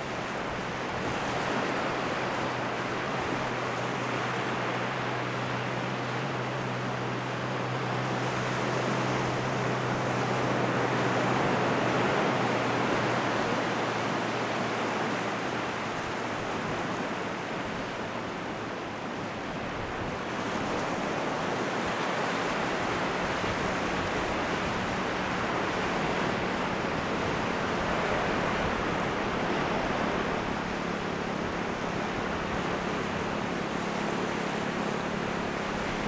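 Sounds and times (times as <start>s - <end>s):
sea waves breaking on sandy shore: 0.0s - 36.0s.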